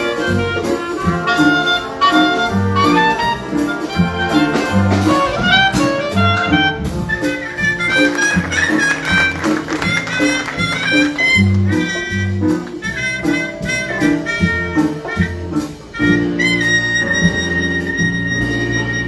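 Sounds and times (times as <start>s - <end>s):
bass notes: 0.0s - 19.0s
wind instruments playing melody: 0.0s - 19.0s.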